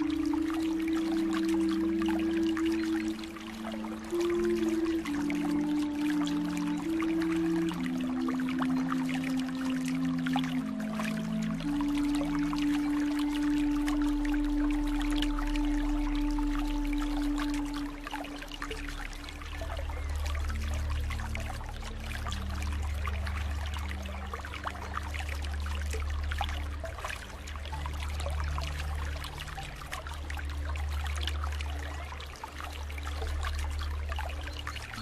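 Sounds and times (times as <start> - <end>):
low steady tones: 0.0 - 35.0
water flowing and trickling: 0.0 - 35.0.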